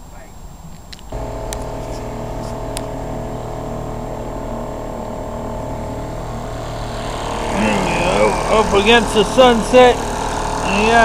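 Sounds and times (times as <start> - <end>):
small boat motor running: 1.1 - 11.0.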